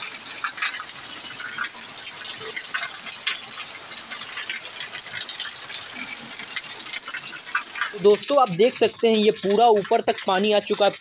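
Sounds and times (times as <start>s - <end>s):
heavy rain pouring: 0.0s - 11.0s
runoff splashing on concrete: 0.0s - 11.0s.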